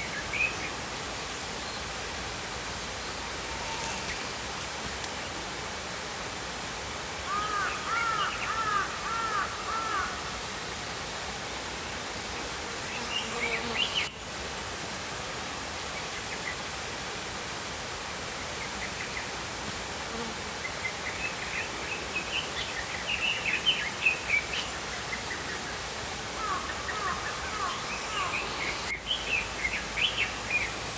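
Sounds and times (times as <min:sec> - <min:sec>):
stream flowing: 0:00.0 - 0:12.6, 0:14.1 - 0:30.9
faint high hiss: 0:00.0 - 0:30.9.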